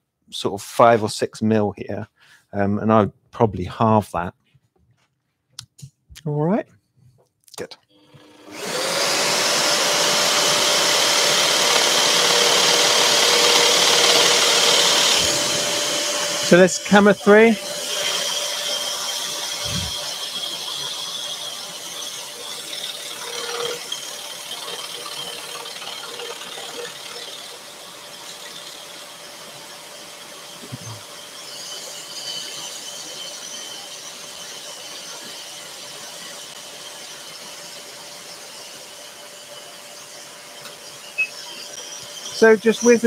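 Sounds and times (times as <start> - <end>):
scroll saw cutting wood: 8.0 - 43.0.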